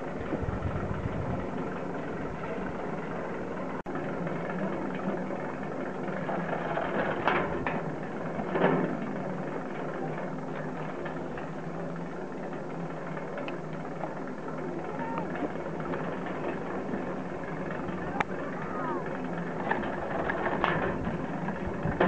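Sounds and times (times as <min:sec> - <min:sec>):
ski lift machinery humming: 0:00.0 - 0:22.0.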